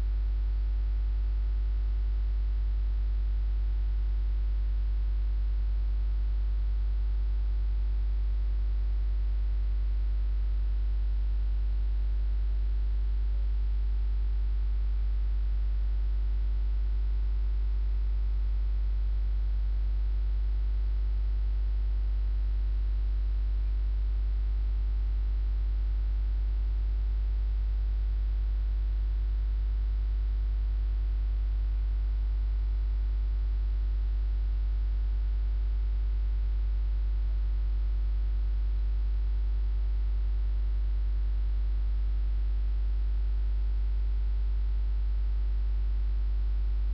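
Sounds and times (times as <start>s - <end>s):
electrical mains hum: 0.0s - 46.9s.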